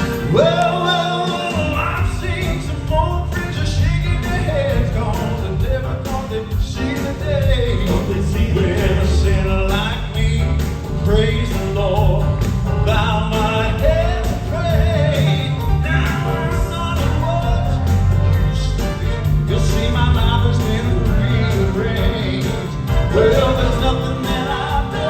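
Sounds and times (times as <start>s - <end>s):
band accompaniment: 0.0s - 25.0s
male vocal quartet singing: 0.0s - 25.0s.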